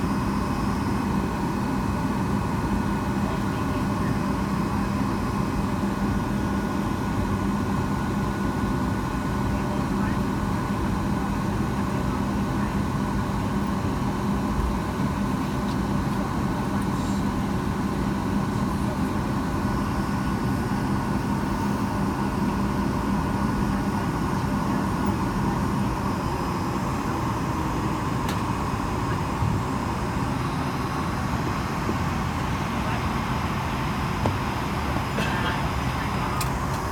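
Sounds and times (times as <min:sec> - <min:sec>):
jet engines idling: 0:00.0 - 0:36.9.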